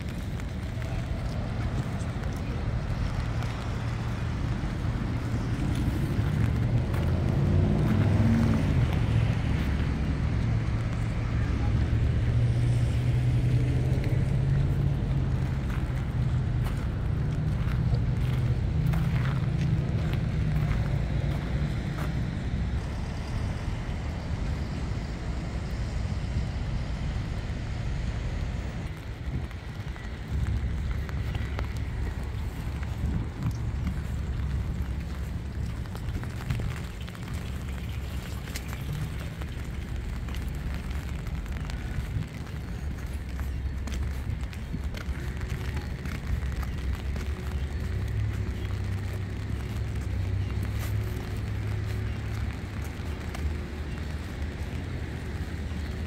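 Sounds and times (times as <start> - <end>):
passing cars rumbling: 0.0 - 56.0
wind buffeting microphone: 0.0 - 56.0.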